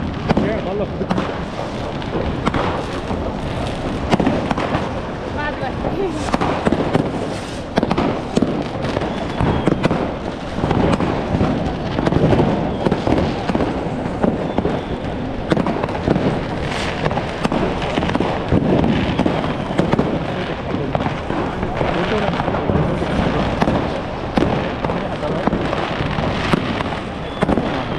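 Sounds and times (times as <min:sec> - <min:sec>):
fireworks and firecrackers crackling: 0:00.0 - 0:27.9.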